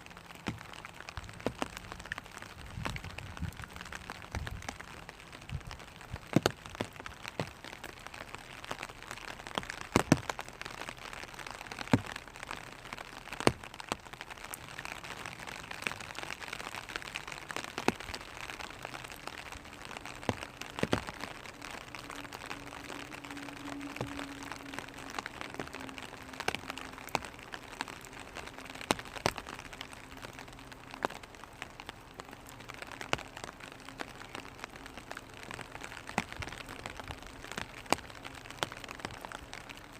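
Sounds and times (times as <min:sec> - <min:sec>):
drops tapping on umbrella canopy: 0:00.0 - 0:39.9
rain pattering on plastic umbrella: 0:00.0 - 0:39.9.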